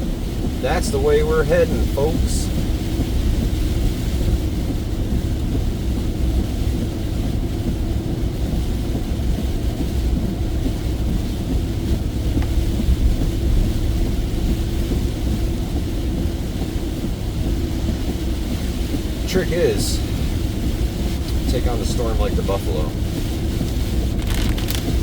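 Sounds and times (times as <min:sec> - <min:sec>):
truck engine rumble: 0:00.0 - 0:25.0
tyre road noise: 0:00.0 - 0:25.0.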